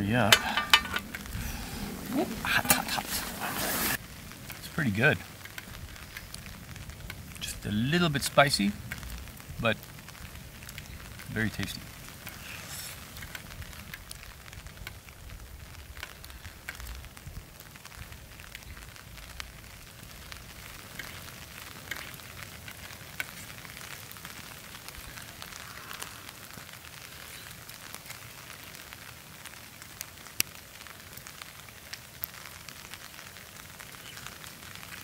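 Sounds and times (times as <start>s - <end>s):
light rain pattering: 0.0s - 35.0s
sharp ticks of raindrops: 0.0s - 35.0s.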